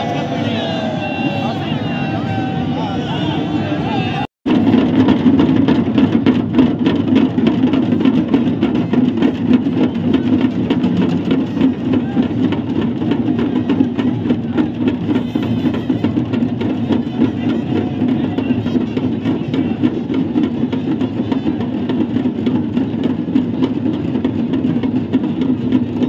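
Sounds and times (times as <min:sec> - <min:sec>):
music with fast drumming: 0:04.5 - 0:26.0.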